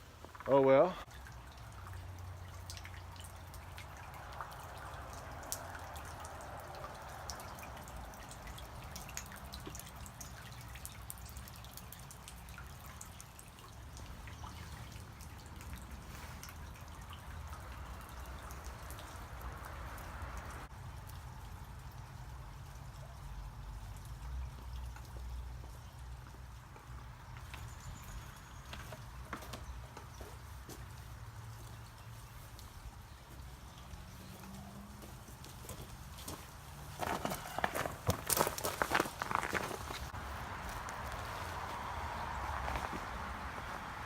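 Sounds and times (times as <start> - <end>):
trickle of running water: 0.0 - 44.0
water dripping: 0.0 - 44.0.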